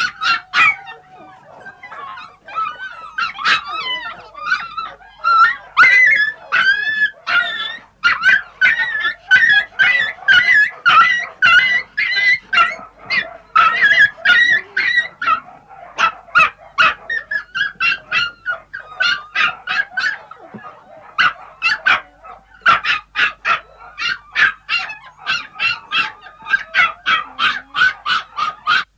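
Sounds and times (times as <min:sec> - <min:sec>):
puppies yipping whining and barking: 0:00.0 - 0:28.9.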